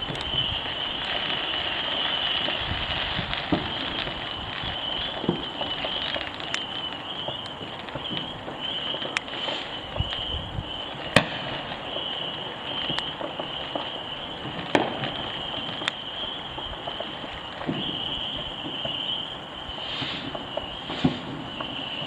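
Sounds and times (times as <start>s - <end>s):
distant fireworks bangs: 0.0s - 22.0s.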